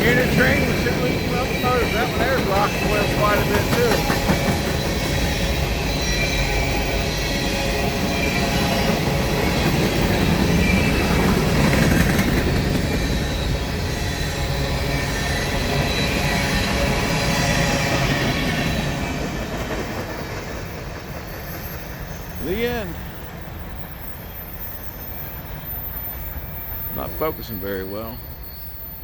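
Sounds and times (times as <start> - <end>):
wheel squeal: 0.0 - 19.2, 23.8 - 29.0
freight train rolling past: 0.0 - 29.0.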